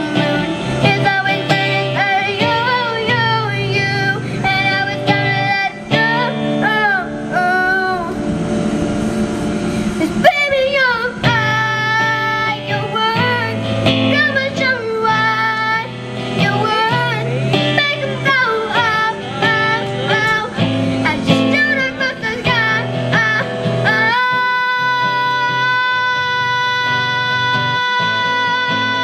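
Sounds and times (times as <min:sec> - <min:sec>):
young woman singing pop song: 0:00.0 - 0:08.3, 0:09.9 - 0:29.0
guitar: 0:00.0 - 0:29.0.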